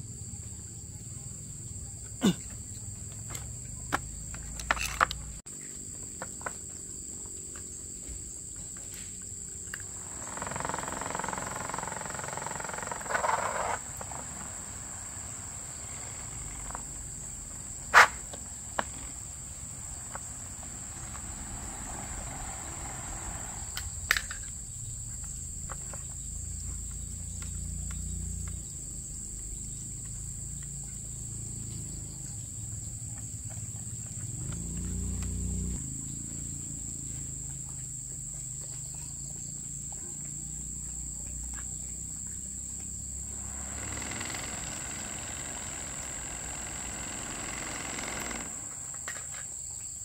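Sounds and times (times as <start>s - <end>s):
crickets trilling: 0.0s - 50.0s.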